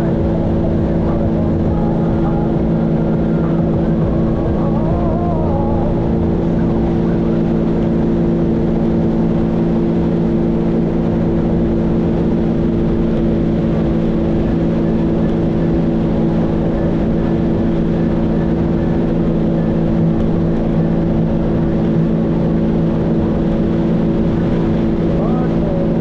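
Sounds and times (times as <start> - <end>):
personal watercraft engine drone: 0.0 - 26.0.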